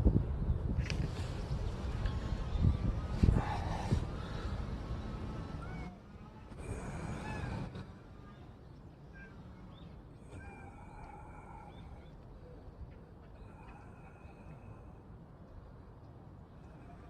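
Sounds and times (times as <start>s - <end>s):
low outdoor background hum: 0.0s - 17.0s
small birds chirping: 0.3s - 17.0s.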